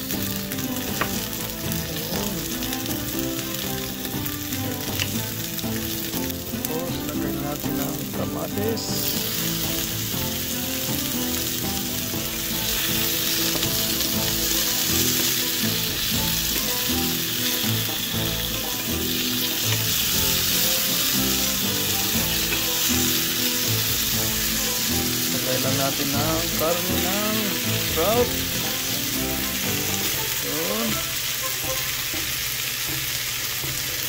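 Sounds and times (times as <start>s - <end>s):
vegetables sizzling in oil: 0.0s - 34.0s.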